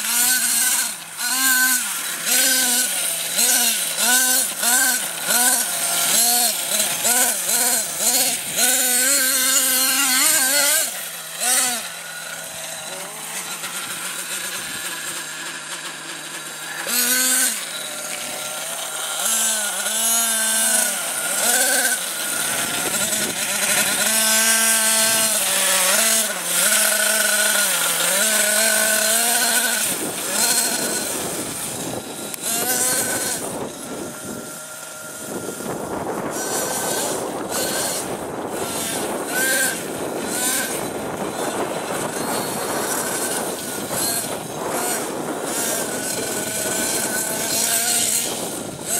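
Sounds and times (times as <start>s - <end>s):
rc truck engine revving: 0.0s - 48.9s.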